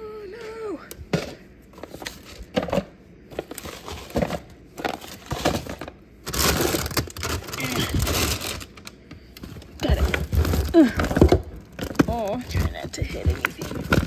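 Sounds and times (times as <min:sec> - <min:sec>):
packages knocking and clattering: 0:01.0 - 0:08.8, 0:09.4 - 0:14.0.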